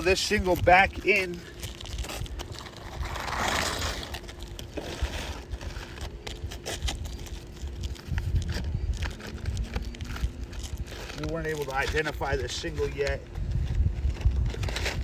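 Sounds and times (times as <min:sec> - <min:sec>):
rough scraping: 0:00.0 - 0:15.0
wind rumbling on microphone: 0:00.0 - 0:15.0.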